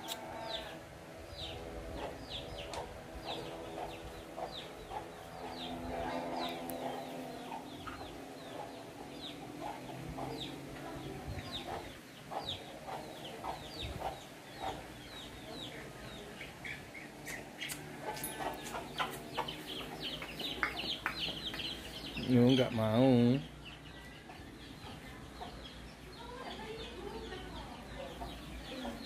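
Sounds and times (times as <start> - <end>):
low clucking bird notes: 0.0 - 29.0.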